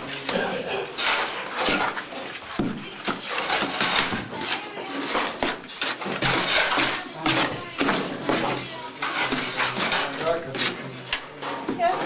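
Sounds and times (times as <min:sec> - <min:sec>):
shovels scraping metal wheelbarrow: 0:00.0 - 0:12.0.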